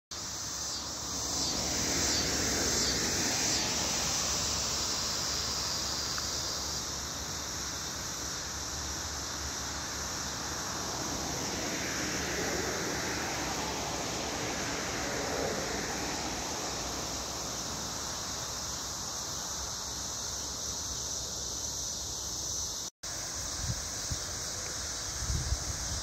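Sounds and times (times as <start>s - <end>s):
insect buzz: 0.1s - 26.0s.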